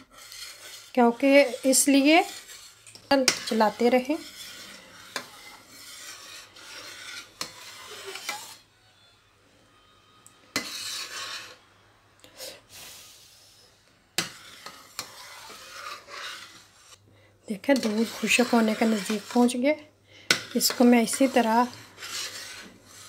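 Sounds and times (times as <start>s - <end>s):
spatula scraping a steel pan: 0.0s - 9.1s, 10.4s - 11.8s, 14.1s - 23.0s.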